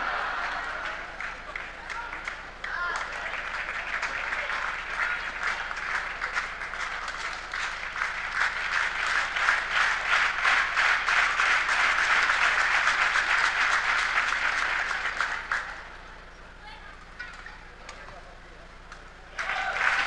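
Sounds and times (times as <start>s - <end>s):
audience applauding: 0.0s - 15.9s, 19.4s - 20.0s.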